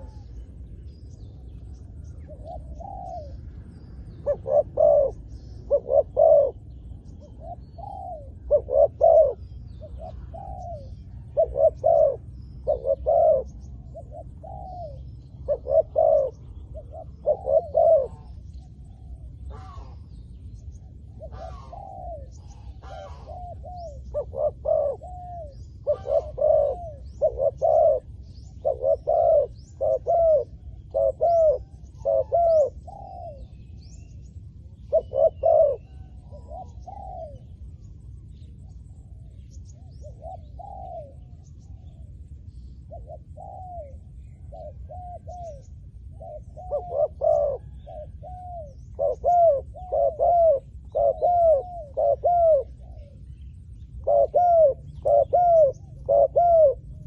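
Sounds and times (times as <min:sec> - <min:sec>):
dove cooing: 0:00.0 - 0:57.0
small birds chirping: 0:00.0 - 0:57.0.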